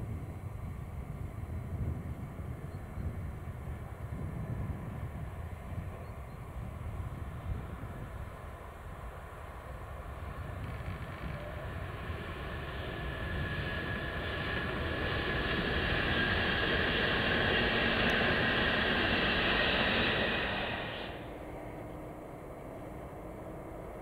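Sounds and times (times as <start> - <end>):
train wheel and rail noise: 0.0 - 24.0.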